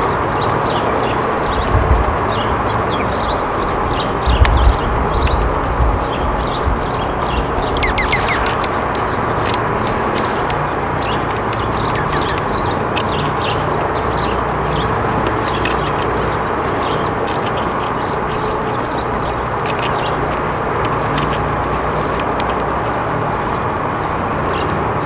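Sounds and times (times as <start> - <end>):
low background rumble: 0.0 - 25.0
small birds chirping: 0.0 - 25.0.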